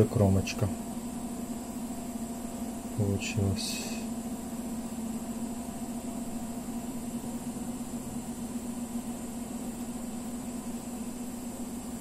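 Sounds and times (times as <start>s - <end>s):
printer mechanical hum: 0.0s - 12.0s.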